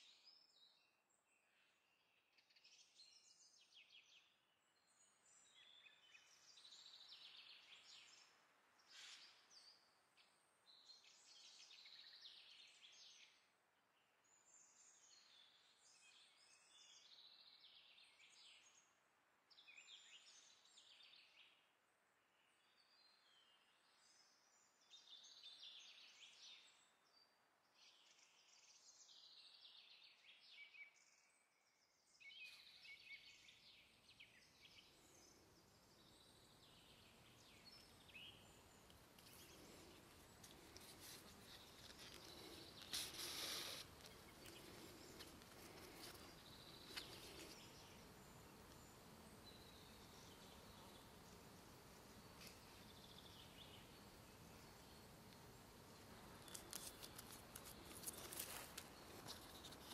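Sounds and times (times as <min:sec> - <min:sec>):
background hiss: 0:02.6 - 0:59.9.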